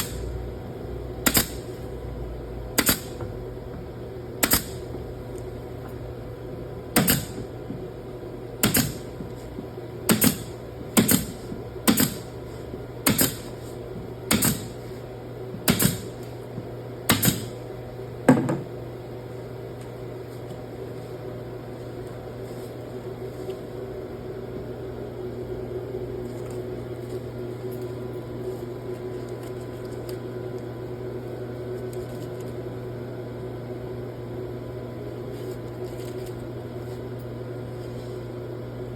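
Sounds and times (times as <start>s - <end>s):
mechanical hum with low drone: 0.0s - 38.9s.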